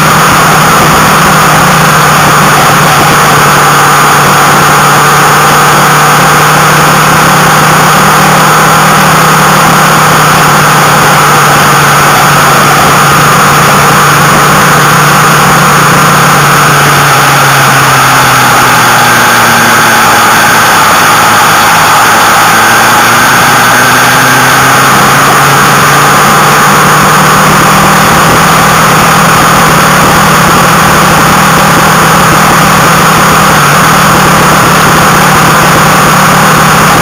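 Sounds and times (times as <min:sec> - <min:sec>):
motorcycle engine running: 0:00.0 - 0:37.0
wind and road noise: 0:00.0 - 0:37.0.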